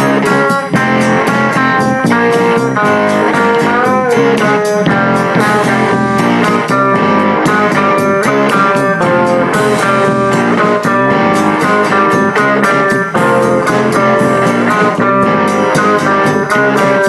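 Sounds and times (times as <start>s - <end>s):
guitar instrumental with beat: 0.0s - 17.0s.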